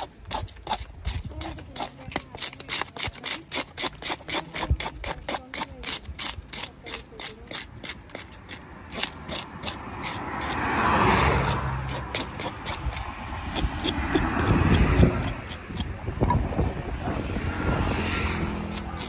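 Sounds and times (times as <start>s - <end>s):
knife scraping fish scales: 0.0s - 16.0s, 18.0s - 19.0s.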